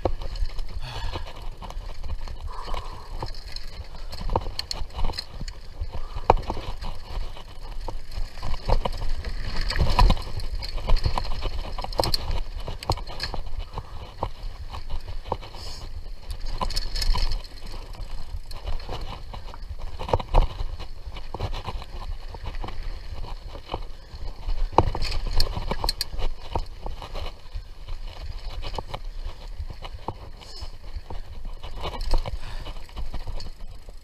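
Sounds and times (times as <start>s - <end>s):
bike clicking and rattling: 0.0s - 34.0s
bike tyres rumbling on dirt: 0.0s - 34.0s.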